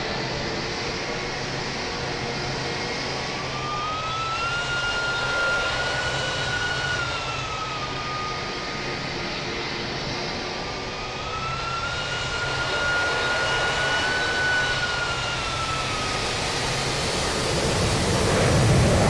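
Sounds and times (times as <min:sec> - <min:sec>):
airplane engines rushing: 0:00.0 - 0:19.0
high engine whine: 0:00.0 - 0:19.0.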